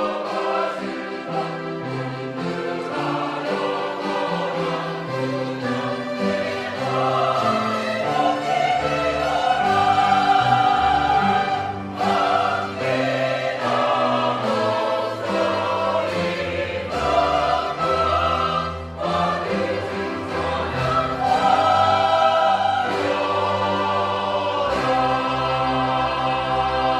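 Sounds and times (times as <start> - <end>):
church choir singing held chords: 0.0 - 26.9.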